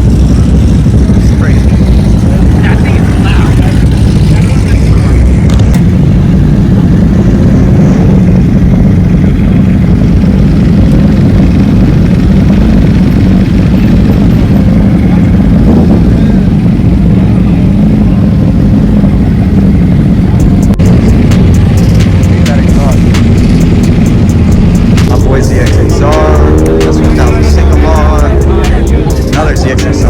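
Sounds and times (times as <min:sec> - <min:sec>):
motorcycle engine rumbling: 0:00.0 - 0:30.0.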